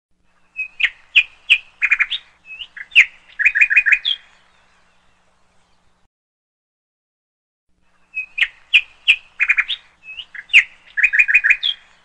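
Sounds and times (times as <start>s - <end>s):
bird chirping: 0.3s - 6.1s, 7.8s - 12.0s.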